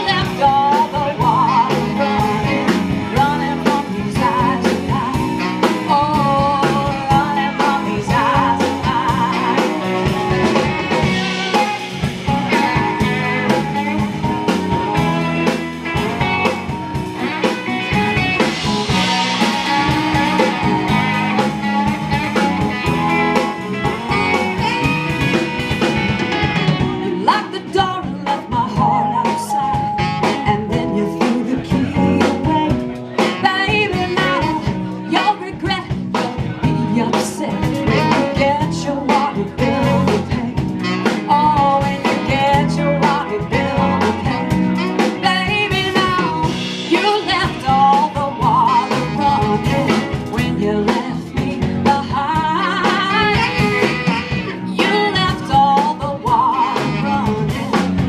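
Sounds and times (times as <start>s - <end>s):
woman singing: 0.0s - 25.4s, 26.6s - 58.0s
live band playing soul-blues: 0.0s - 58.0s.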